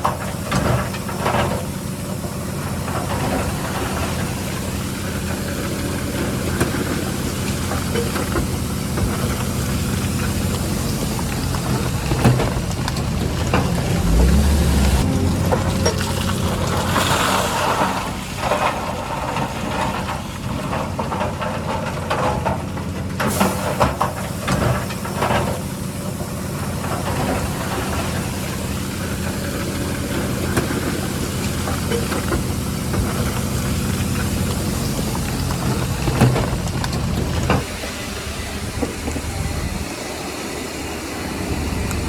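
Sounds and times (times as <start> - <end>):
diesel earthmoving machinery running: 0.0 - 42.0.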